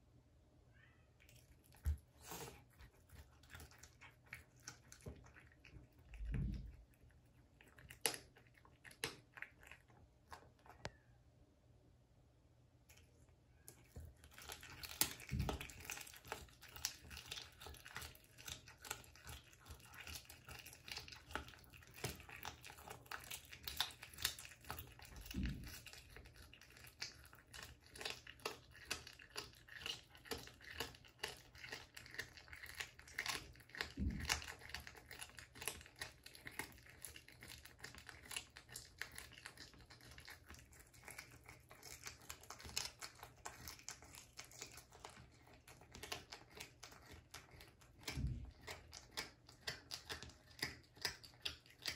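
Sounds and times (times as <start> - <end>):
cat chewing with crunches: 1.2 - 11.1, 12.7 - 51.9.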